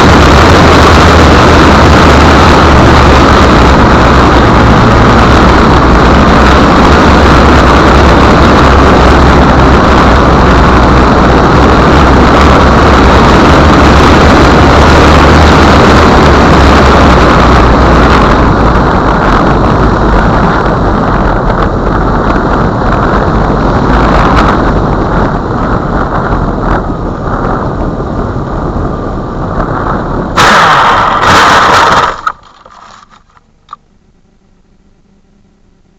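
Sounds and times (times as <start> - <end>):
low engine hum: 0.0 - 35.9
road and wind noise: 0.0 - 35.9.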